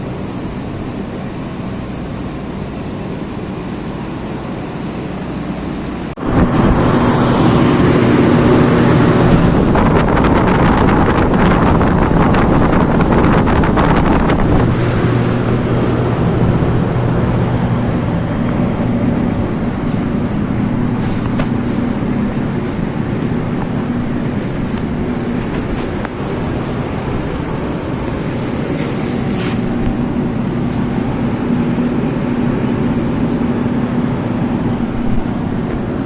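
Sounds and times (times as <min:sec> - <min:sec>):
air conditioner fan whoosh: 0:00.0 - 0:36.0
low hum: 0:00.0 - 0:36.0.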